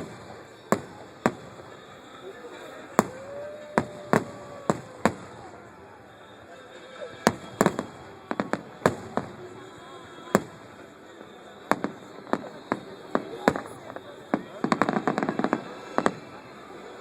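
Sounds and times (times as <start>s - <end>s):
fireworks bangs: 0.0s - 6.3s, 7.0s - 17.0s
faint voices: 0.0s - 17.0s.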